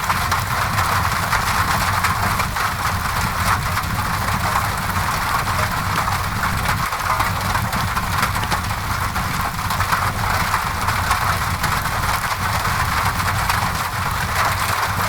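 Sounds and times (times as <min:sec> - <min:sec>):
rain on a window: 0:00.0 - 0:15.0.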